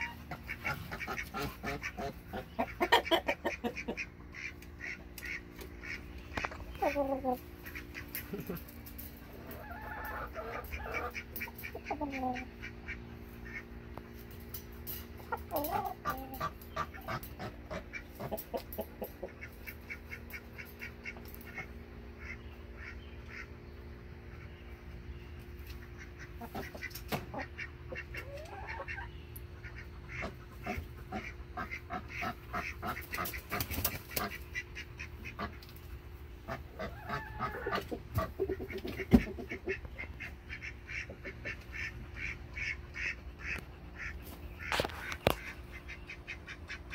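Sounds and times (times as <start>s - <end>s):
roosters clucking and calling: 0.0s - 46.9s
steady low hum: 0.0s - 46.9s.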